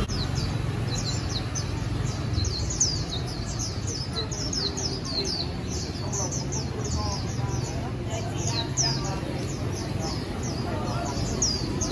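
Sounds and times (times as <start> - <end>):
birds chirping: 0.0 - 11.9
low street rumble: 0.0 - 11.9.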